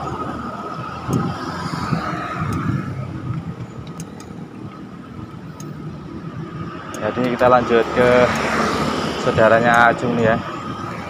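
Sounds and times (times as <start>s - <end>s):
cars and motorbikes passing: 0.0s - 11.0s
steady road rumble: 0.0s - 11.0s.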